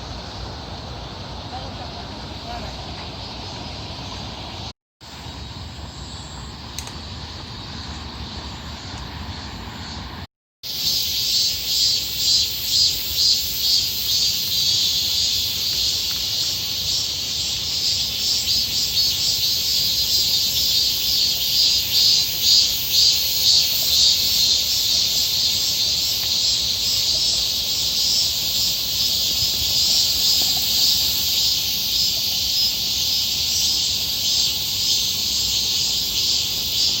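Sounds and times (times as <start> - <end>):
cicadas singing: 0.0 - 37.0.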